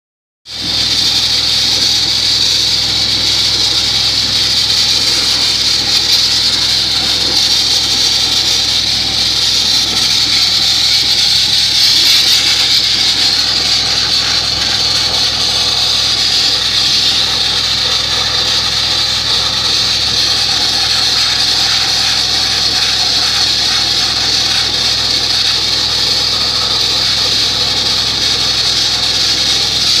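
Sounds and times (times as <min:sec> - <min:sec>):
blasting nozzle spraying hiss: 0:00.5 - 0:30.0.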